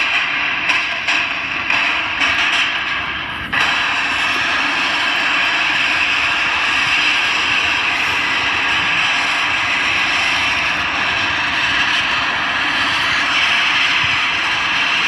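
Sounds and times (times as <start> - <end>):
jet engines hissing: 0.0 - 15.0.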